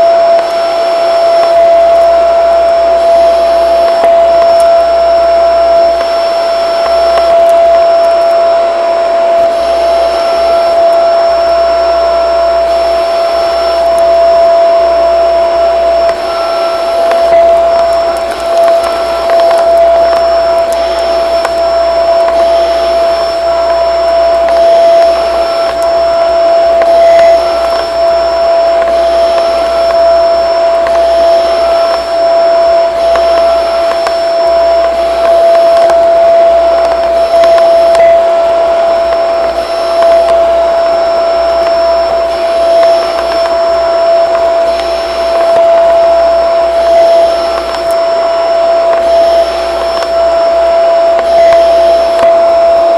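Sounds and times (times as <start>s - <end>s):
vacuum cleaner motor whine: 0.0s - 52.9s.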